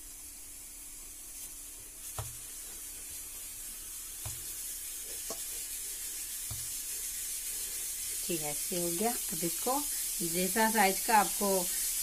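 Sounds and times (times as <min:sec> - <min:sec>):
steady hiss: 0:00.0 - 0:12.0
rolling pin rolling dough: 0:01.4 - 0:12.0.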